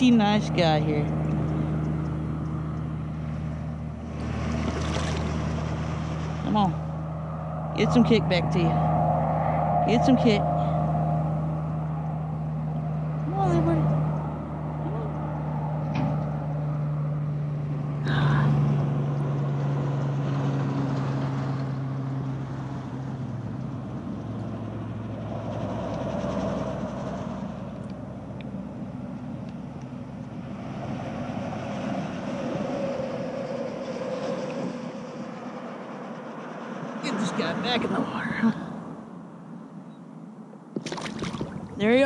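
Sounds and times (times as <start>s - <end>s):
constant rushing noise: 0.0s - 38.9s
low engine drone: 0.0s - 42.0s.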